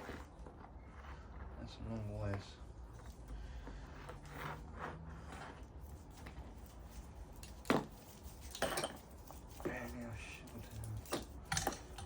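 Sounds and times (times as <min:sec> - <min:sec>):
rustling and scraping of parts: 0:00.0 - 0:12.0.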